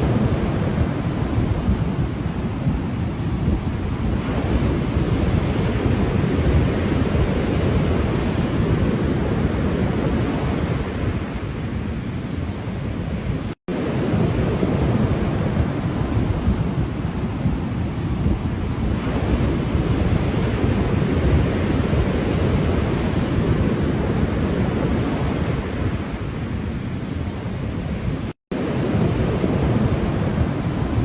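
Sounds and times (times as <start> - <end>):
ocean waves washing: 0.0 - 31.0.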